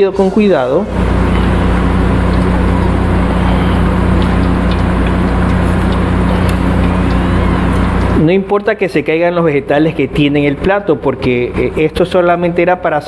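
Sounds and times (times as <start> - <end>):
kitchen equipment humming: 0.0 - 13.0.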